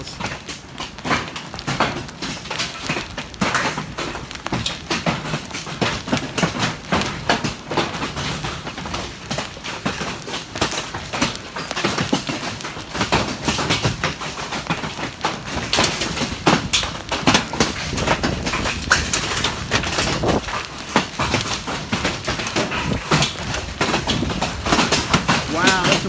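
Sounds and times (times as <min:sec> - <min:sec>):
hailstones clattering: 0:00.0 - 0:26.0.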